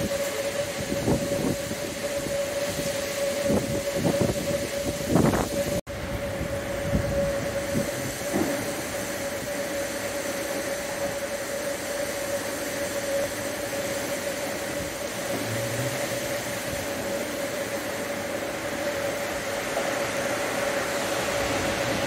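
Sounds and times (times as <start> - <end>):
heavy rain: 0.0 - 22.0
steady droning tone: 0.0 - 22.0
strong winds: 0.0 - 22.0.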